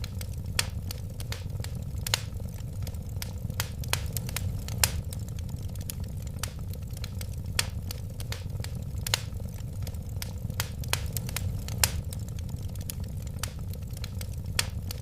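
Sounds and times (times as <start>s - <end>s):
low rumble of flames: 0.0s - 15.0s
sharp pops of fire: 0.0s - 15.0s
wood fire crackling: 0.0s - 15.0s.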